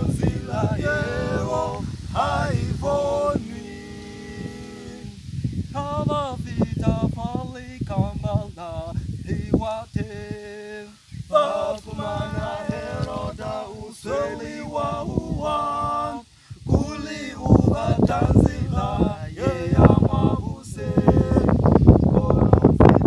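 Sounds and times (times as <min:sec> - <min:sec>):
male vocal group singing a cappella: 0:00.0 - 0:23.0.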